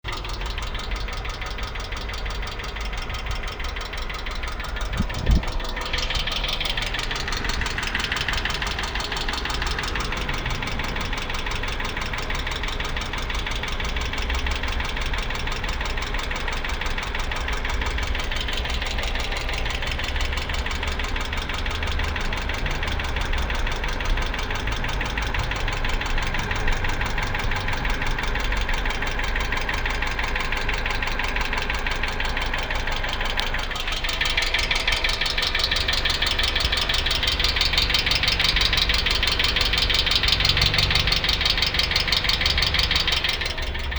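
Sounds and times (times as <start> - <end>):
car engine knocking: 0.0 - 43.9.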